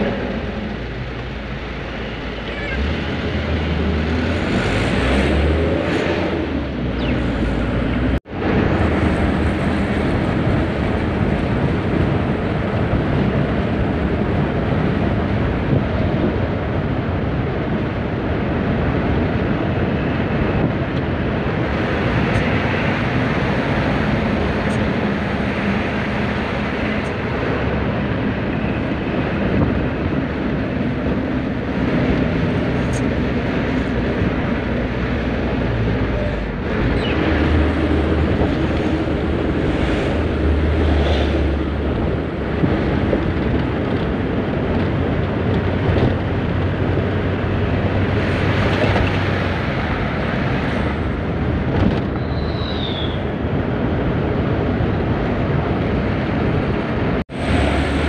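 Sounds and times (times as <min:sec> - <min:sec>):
bus engine: 0:00.0 - 0:58.0.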